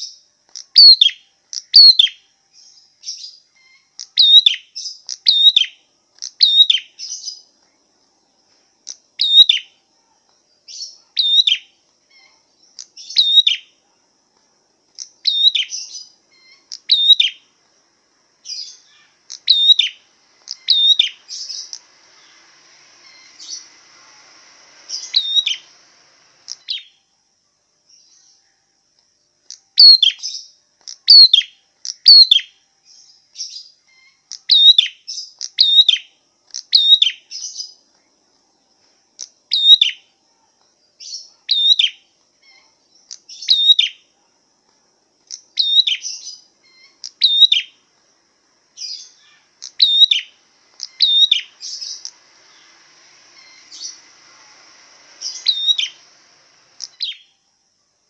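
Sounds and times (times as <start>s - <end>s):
songbird calling: 0.0s - 27.2s, 29.3s - 44.4s, 45.2s - 57.5s.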